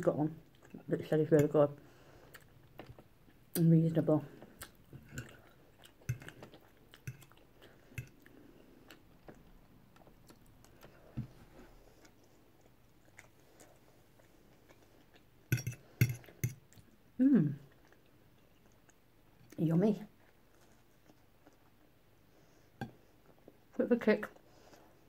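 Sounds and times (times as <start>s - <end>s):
person chewing food: 2.0s - 3.6s, 4.4s - 17.1s, 17.7s - 19.5s, 20.2s - 25.0s.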